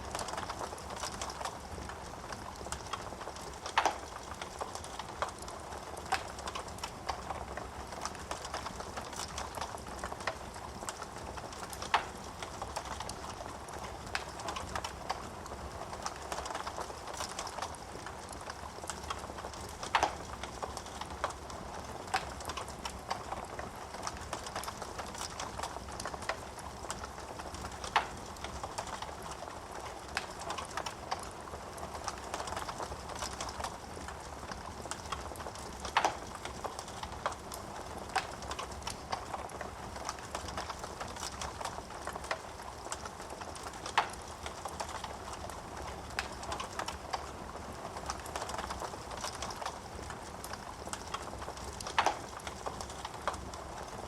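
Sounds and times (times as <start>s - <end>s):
wood fire crackling: 0.0s - 54.0s
loud pops of burning wood: 0.1s - 54.0s.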